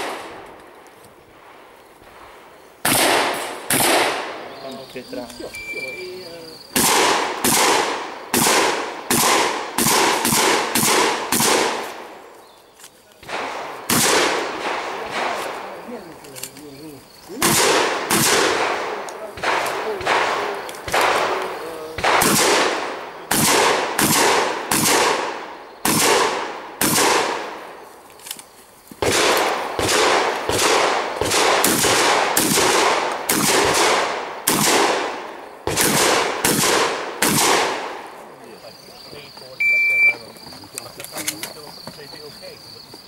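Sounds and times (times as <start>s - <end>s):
shotgun shots echoing: 0.0s - 0.7s, 1.3s - 12.3s, 13.2s - 16.6s, 17.4s - 27.8s, 29.0s - 38.2s.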